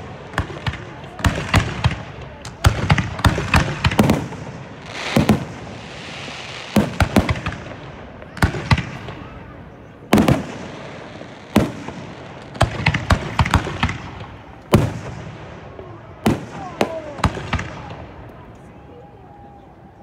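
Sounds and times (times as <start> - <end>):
firework shells booming: 0.0 - 18.3.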